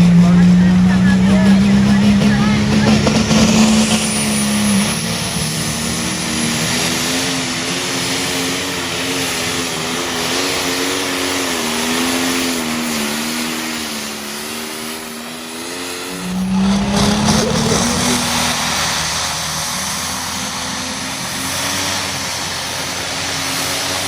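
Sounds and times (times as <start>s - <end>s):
truck engine under heavy load: 0.0s - 24.0s.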